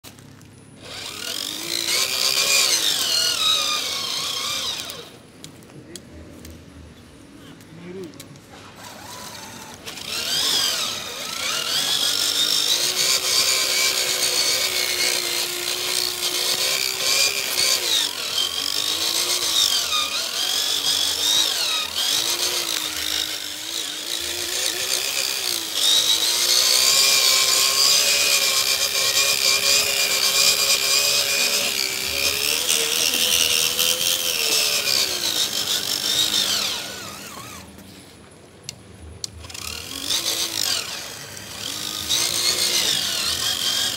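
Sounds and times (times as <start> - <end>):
electric motors whining: 0.4 - 6.4, 7.5 - 43.9.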